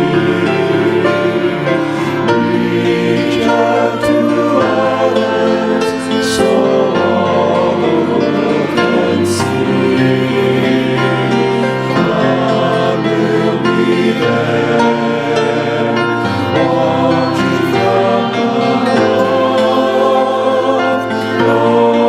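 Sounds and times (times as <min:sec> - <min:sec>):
choir singing a hymn: 0:00.0 - 0:22.0
musical accompaniment: 0:00.0 - 0:22.0.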